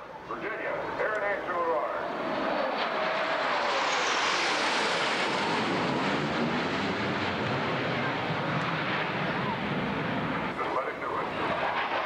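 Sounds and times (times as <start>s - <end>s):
jet engines roaring overhead: 0.0s - 12.0s.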